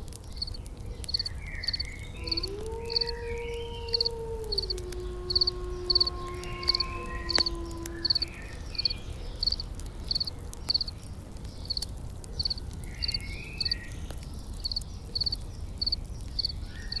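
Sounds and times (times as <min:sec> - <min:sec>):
campfire crackling: 0:00.0 - 0:17.0
crickets chirping: 0:00.4 - 0:03.2, 0:03.8 - 0:10.9, 0:12.4 - 0:13.8, 0:14.6 - 0:17.0.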